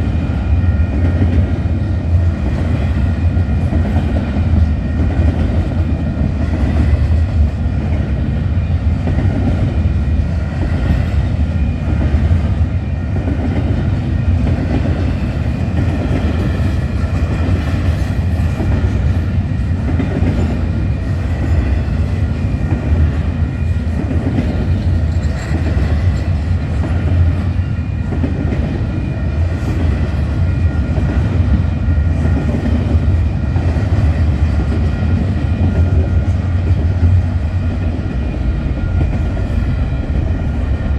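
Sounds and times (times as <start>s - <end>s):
train clickety-clack: 0.0s - 40.9s
train wheels rumbling on rails: 0.0s - 40.9s.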